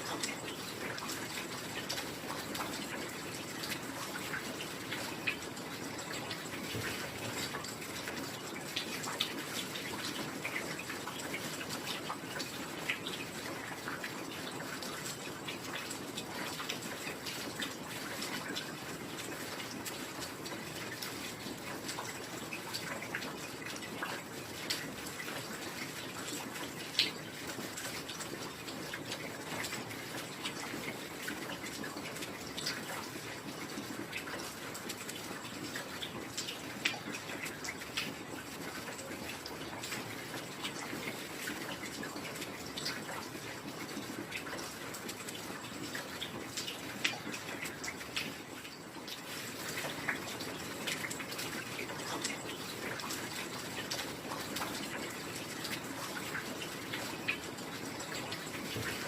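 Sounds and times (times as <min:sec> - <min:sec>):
heavy rain: 0:00.0 - 0:59.0
sharp drips: 0:00.0 - 0:59.0.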